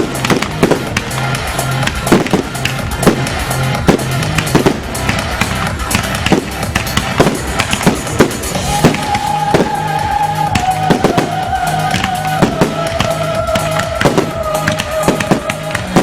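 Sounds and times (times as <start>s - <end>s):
electronic music with bass line: 0.0s - 16.0s
fireworks bursting: 0.0s - 16.0s.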